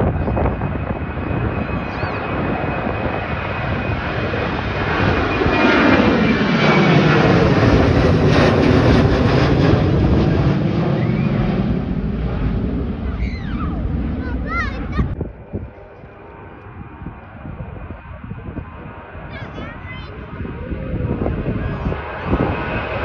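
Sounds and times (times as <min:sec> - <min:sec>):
high engine whine: 0:00.0 - 0:19.3
jet airliner passing overhead: 0:00.0 - 0:23.0.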